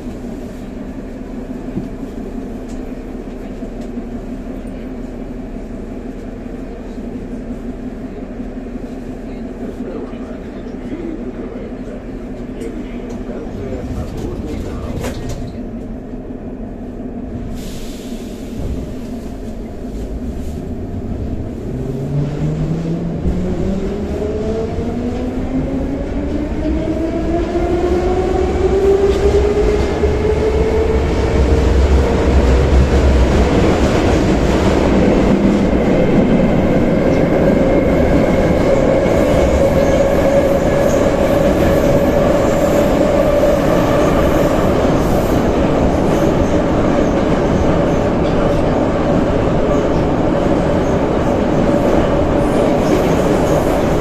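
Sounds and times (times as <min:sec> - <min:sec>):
train wheel rumble: 0:00.0 - 0:54.0.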